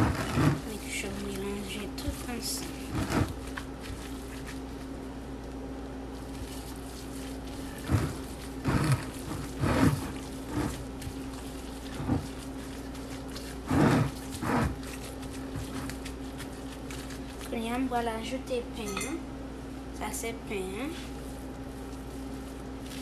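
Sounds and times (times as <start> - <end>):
steady low hum: 0.0 - 23.0
wet squishes of kneaded meat: 0.6 - 18.1, 21.1 - 23.0.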